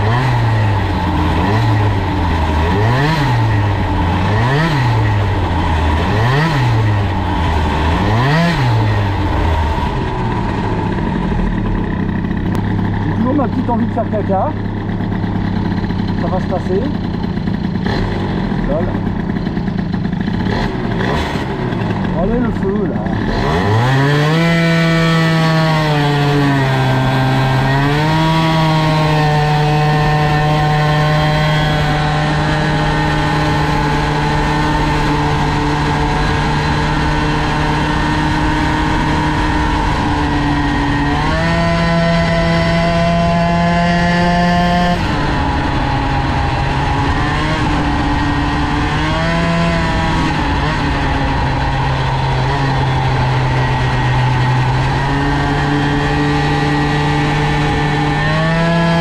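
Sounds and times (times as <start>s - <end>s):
moped engine revving high: 0.0s - 59.0s.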